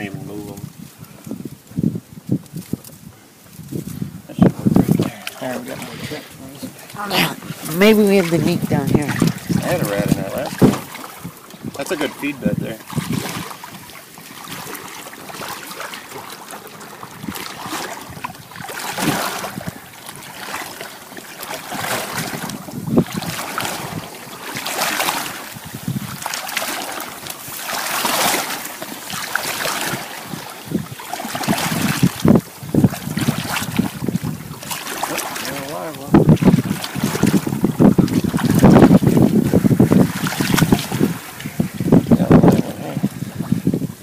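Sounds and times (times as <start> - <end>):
water sloshing in a marsh: 0.0 - 44.0
wind buffeting microphone: 0.0 - 44.0
heavy water splashes: 3.5 - 44.0.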